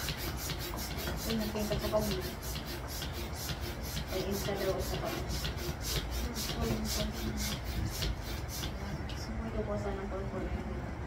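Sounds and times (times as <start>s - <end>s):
quick rasping strokes: 0.0s - 8.9s.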